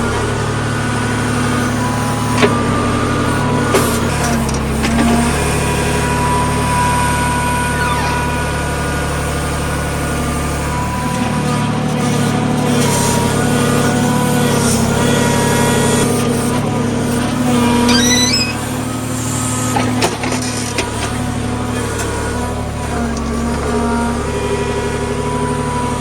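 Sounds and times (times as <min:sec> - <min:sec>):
backhoe digging mud: 0:00.0 - 0:26.0
tractor diesel engine running: 0:00.0 - 0:26.0.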